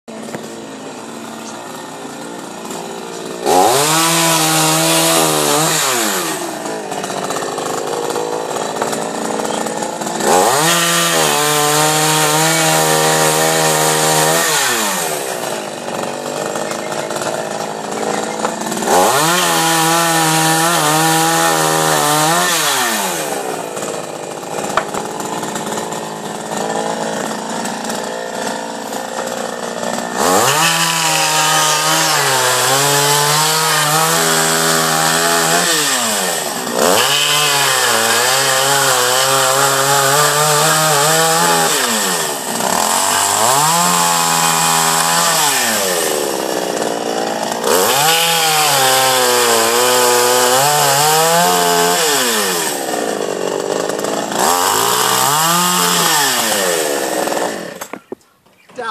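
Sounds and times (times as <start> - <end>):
chainsaw cutting wood: 0.1 - 58.2.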